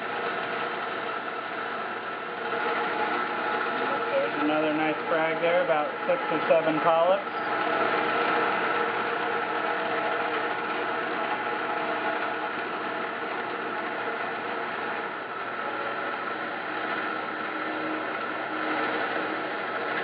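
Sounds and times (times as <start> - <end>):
wet band saw cutting rock: 0.0 - 20.0.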